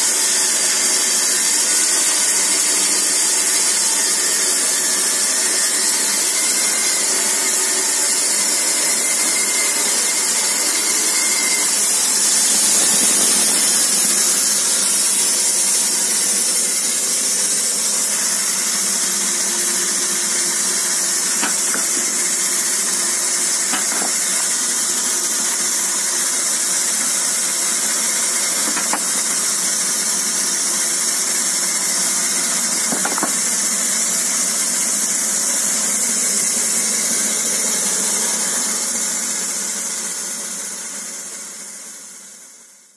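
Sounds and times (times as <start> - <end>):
band sawmill running: 0.0 - 42.8.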